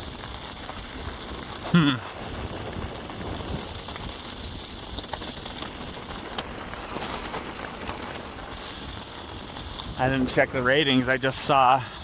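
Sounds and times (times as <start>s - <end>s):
bike clicks and rattles: 0.0s - 11.8s
bike tyres crunching on dirt: 0.0s - 12.0s
wind on microphone: 0.8s - 11.1s.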